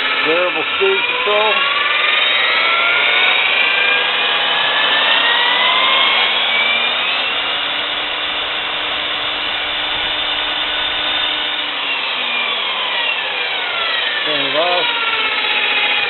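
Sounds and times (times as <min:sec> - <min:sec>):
electric drill motor whine: 0:00.0 - 0:16.0.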